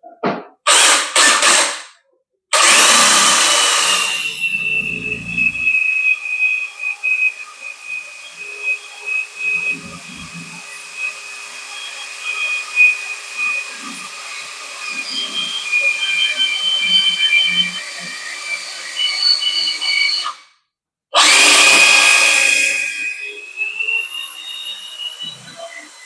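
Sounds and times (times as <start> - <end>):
hammer drill whining: 0.7 - 1.9, 2.5 - 20.4, 21.2 - 26.0.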